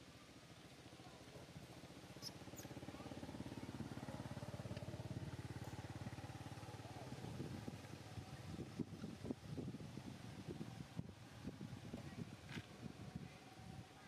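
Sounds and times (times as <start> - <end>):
passing vehicle engine: 1.8 - 13.9.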